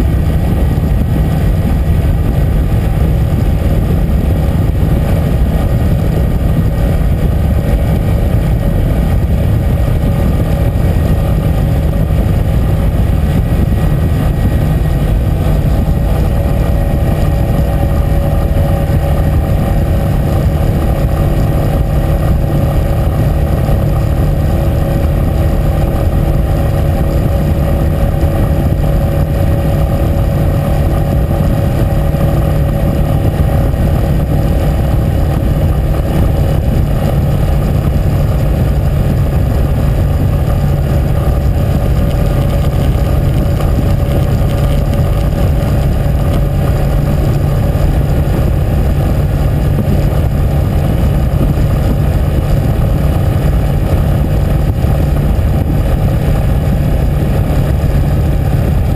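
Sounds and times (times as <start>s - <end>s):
motorcycle engine cruising: 0.0s - 58.9s
wind rush: 0.0s - 58.9s.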